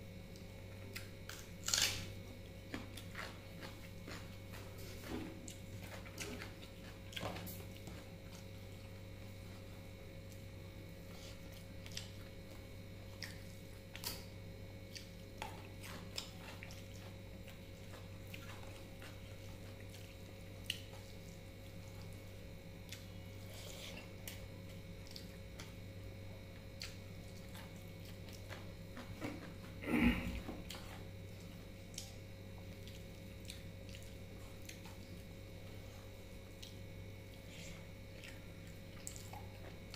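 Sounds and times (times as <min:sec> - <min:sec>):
steady low hum: 0:00.0 - 0:39.9
soft chewing: 0:00.2 - 0:39.9.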